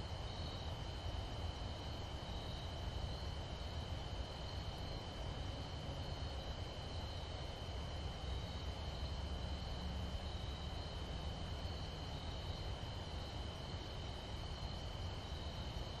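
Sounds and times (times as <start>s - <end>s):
insect chorus trilling: 0.2s - 16.0s.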